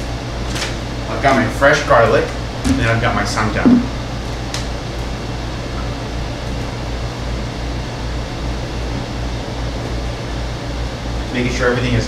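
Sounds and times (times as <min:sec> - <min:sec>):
fan humming and hissing: 0:00.0 - 0:12.0.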